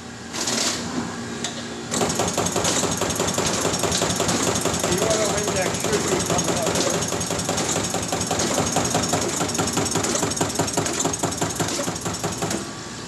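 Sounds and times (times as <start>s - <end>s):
punch press hammering sheet metal: 1.9s - 12.7s.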